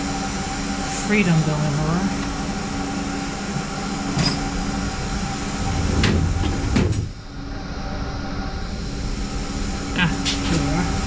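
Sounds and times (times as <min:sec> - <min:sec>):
fan-like hum: 0:00.0 - 0:11.0.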